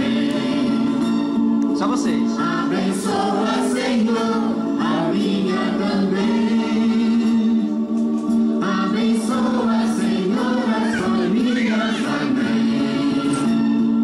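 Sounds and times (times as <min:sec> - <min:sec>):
choir singing: 0:00.0 - 0:01.4, 0:02.3 - 0:14.0.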